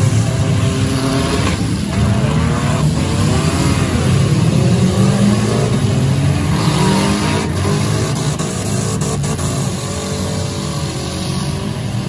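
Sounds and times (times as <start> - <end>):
car engines revving together: 0.0 - 12.0.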